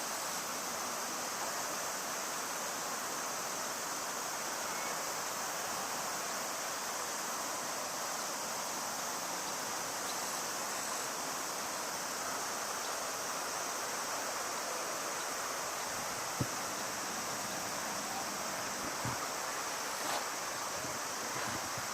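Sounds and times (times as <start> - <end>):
river water rushing: 0.0 - 21.9.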